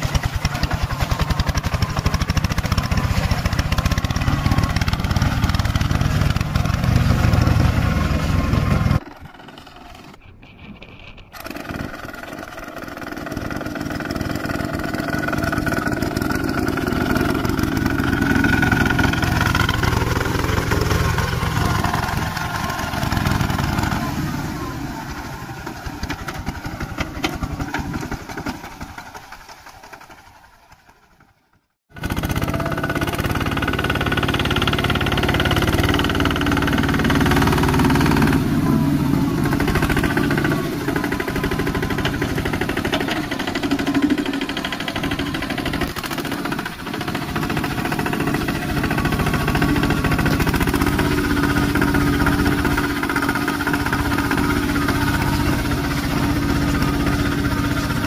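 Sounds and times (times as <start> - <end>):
diesel engine running: 0.0 - 31.3, 31.9 - 58.0.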